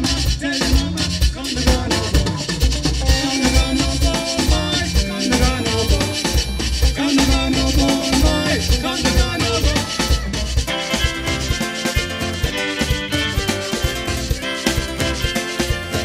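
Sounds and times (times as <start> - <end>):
drum and shaker beat: 0.0 - 16.0
electric bass: 0.0 - 16.0
strummed acoustic guitar: 0.0 - 16.0
fiddle melody: 3.1 - 16.0.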